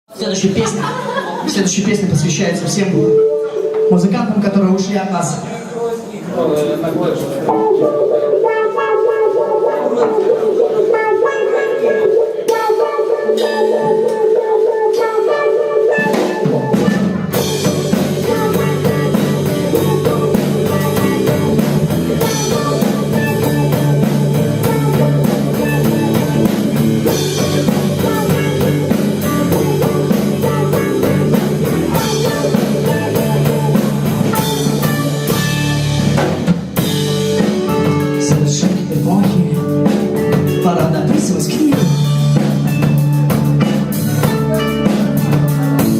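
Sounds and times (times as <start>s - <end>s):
live rock band playing: 0.1s - 6.1s, 6.9s - 45.9s.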